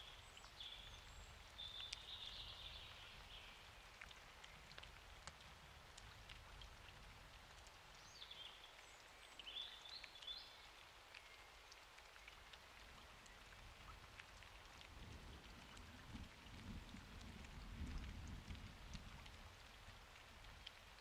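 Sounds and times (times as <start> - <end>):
faint rain: 0.0 - 21.0.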